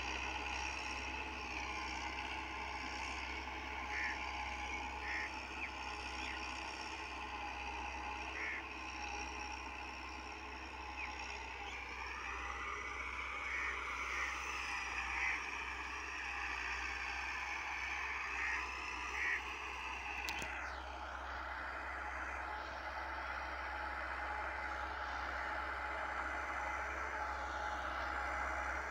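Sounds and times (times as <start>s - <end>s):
distant tractor engine droning: 0.0s - 28.9s.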